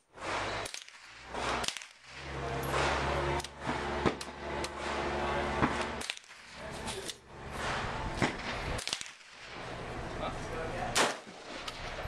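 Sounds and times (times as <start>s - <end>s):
rifle shots: 0.0s - 9.7s, 10.9s - 11.9s.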